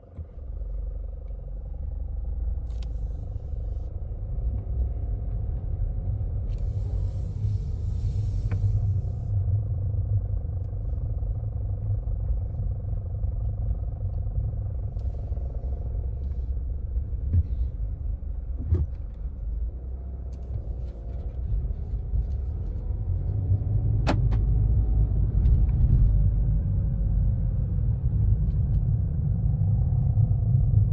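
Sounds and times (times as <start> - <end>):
car engine rumbling: 0.0 - 30.9.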